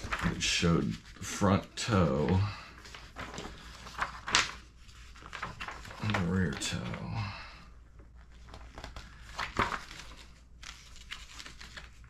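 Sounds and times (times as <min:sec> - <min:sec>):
paper pages rustling: 0:00.0 - 0:07.3, 0:08.0 - 0:12.0.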